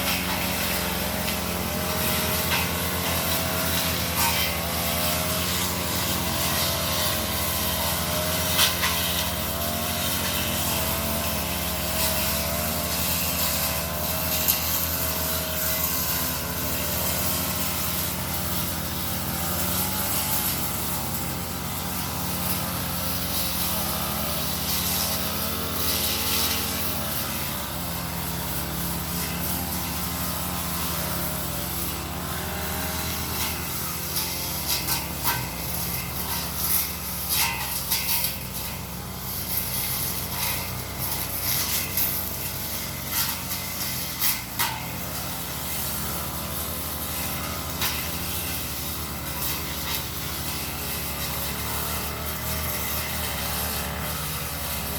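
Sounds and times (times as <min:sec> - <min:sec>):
brush cutter engine: 0:00.0 - 0:54.9.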